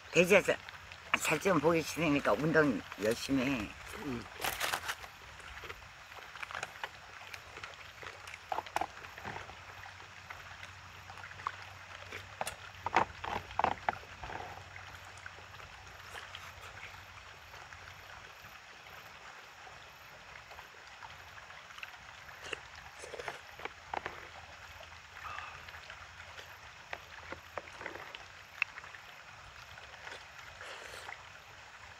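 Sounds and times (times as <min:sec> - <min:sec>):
steady outdoor hiss: 0:00.0 - 0:31.9.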